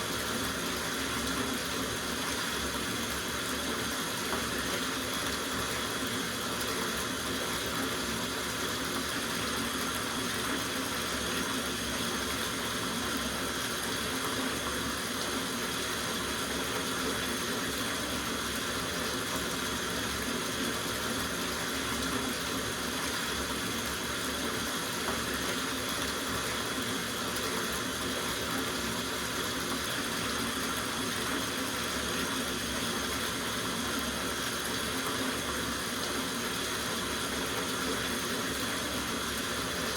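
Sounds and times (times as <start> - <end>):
tap water running into bathtub: 0.0 - 39.9.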